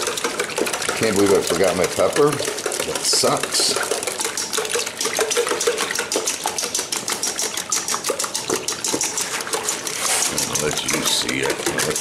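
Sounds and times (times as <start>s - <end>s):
liquid sloshing: 0.0s - 12.0s
whisk clicking against steel bowl: 0.0s - 12.0s.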